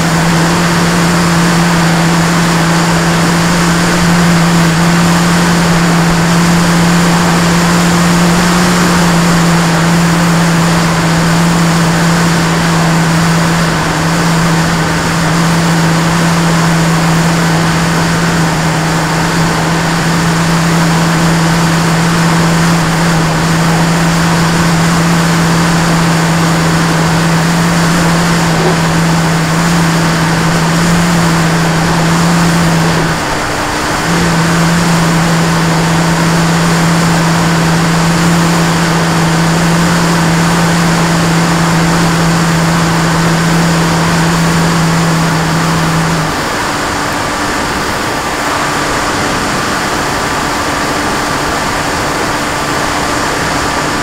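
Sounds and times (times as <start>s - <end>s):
model aircraft motor humming: 0.0s - 54.0s
wind rush on microphone: 0.0s - 54.0s.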